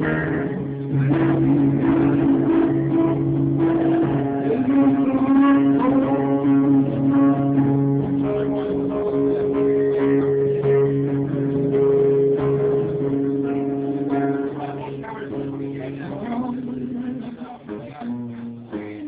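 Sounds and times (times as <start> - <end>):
muffled live guitar music: 0.0 - 19.0.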